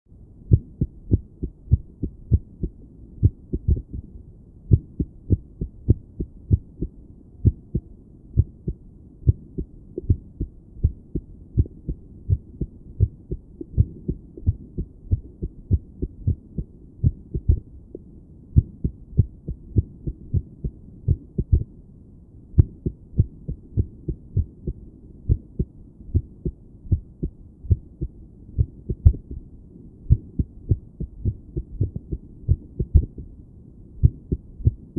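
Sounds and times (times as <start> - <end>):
heartbeat through stethoscope: 0.5 - 4.1, 4.7 - 17.7, 18.6 - 21.7, 22.6 - 29.4, 30.1 - 33.4, 34.0 - 34.9.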